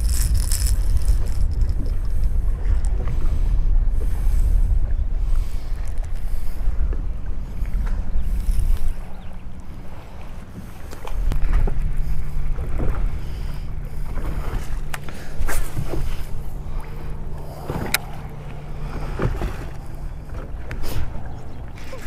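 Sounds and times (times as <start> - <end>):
boat motor humming: 0.0 - 22.0
wind and water noise: 0.0 - 22.0.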